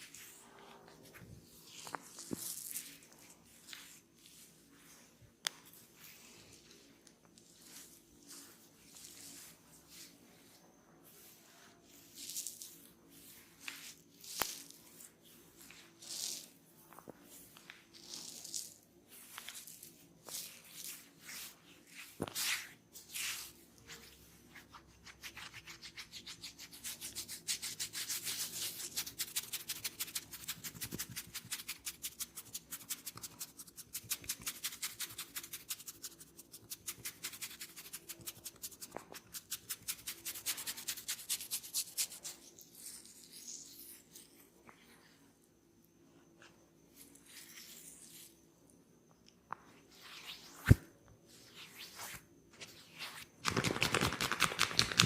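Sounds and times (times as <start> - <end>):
hands rubbing skin and hair: 0.0 - 45.2, 49.7 - 55.0.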